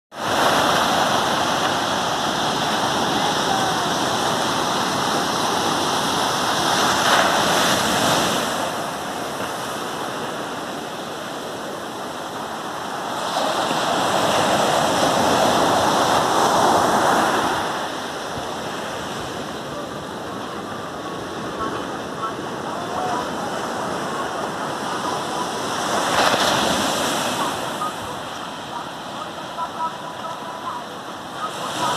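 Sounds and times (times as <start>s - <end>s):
ocean waves breaking on beach: 0.1s - 31.9s.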